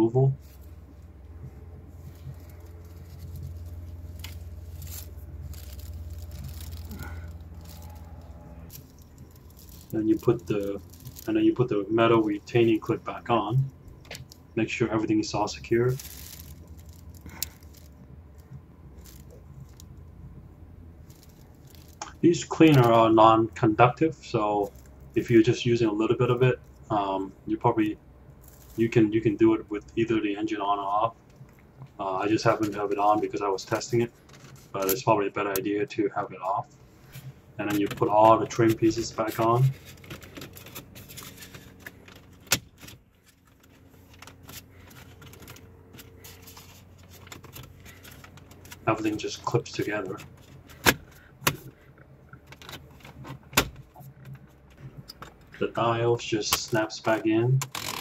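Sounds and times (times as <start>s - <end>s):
engine idling hum: 0.0s - 57.4s.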